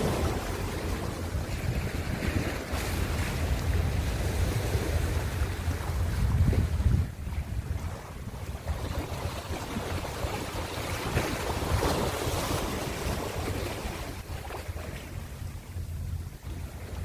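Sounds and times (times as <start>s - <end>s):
ocean waves breaking: 0.0s - 17.0s
steady low rumble: 0.0s - 17.0s.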